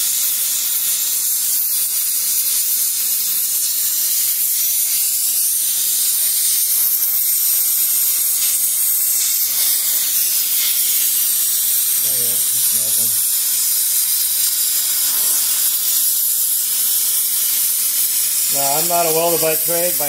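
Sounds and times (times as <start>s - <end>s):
torch flame hissing: 0.0s - 20.0s.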